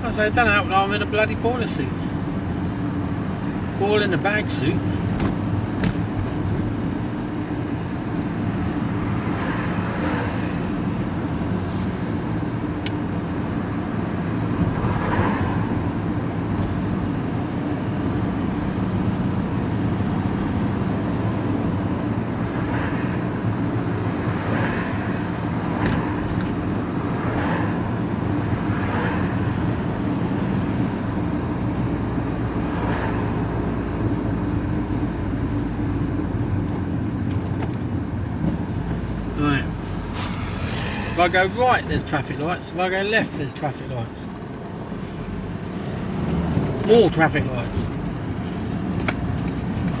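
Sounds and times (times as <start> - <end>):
road noise: 0.0 - 50.0
vehicle engine droning: 0.0 - 50.0.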